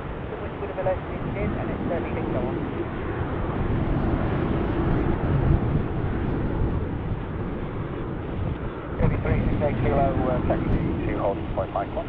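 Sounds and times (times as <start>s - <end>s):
jet engines rumbling: 0.0s - 12.0s
wind noise on microphone: 0.0s - 12.0s.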